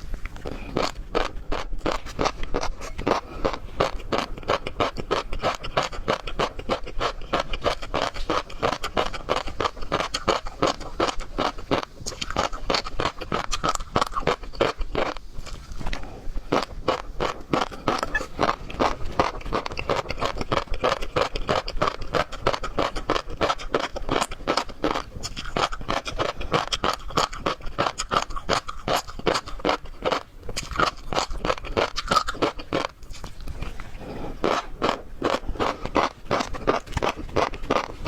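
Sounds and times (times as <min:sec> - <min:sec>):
chewing seafood: 0:00.0 - 0:38.0.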